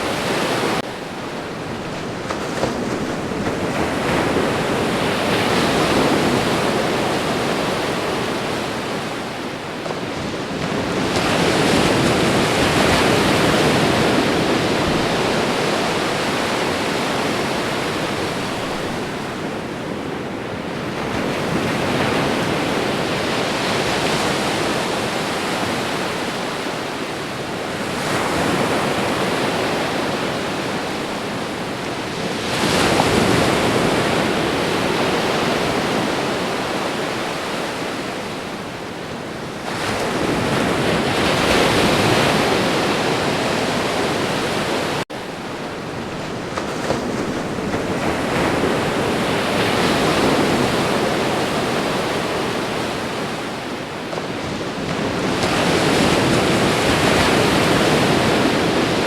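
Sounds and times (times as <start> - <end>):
ocean waves crashing on shore: 0.0 - 59.0.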